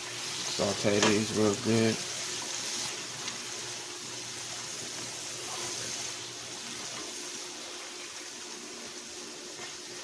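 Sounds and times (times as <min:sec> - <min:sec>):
food sizzling in frying pan: 0:00.0 - 0:10.0.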